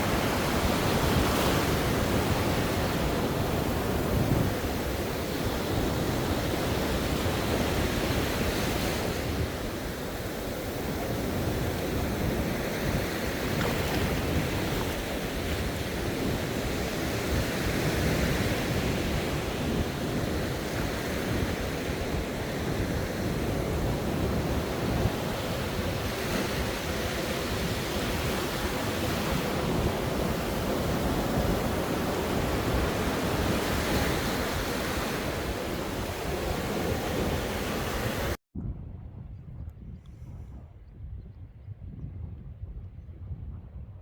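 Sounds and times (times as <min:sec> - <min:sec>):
sea waves washing on shore: 0:00.0 - 0:38.4
wind rumbling on microphone: 0:00.0 - 0:44.0.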